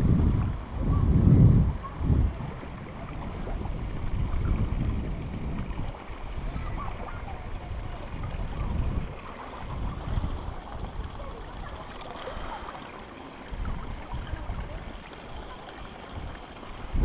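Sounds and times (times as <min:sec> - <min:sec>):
wind buffeting microphone: 0:00.0 - 0:12.8, 0:13.4 - 0:17.0
water sloshing and rumbling: 0:00.0 - 0:17.0.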